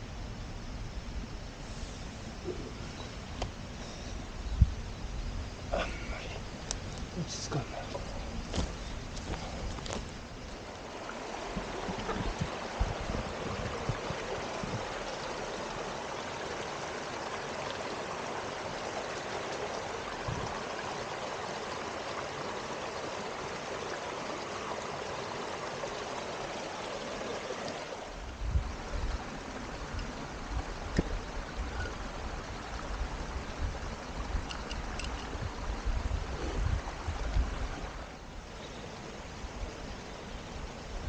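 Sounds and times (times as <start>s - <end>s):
stream water flowing: 1.4s - 41.0s.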